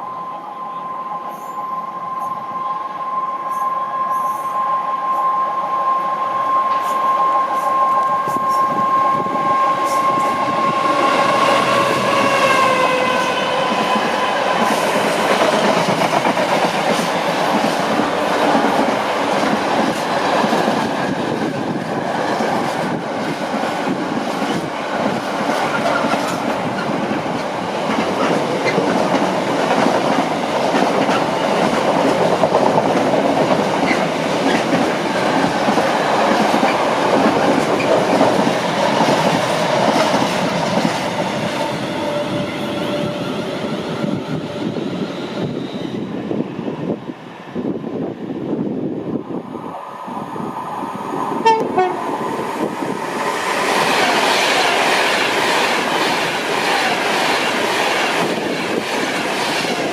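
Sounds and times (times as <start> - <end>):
train running past: 0.0 - 59.9.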